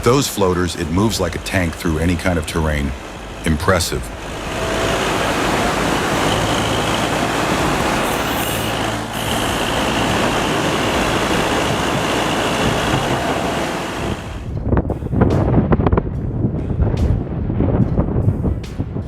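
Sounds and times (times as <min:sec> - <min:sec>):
heavy vehicle engine rumble: 0:00.0 - 0:19.0.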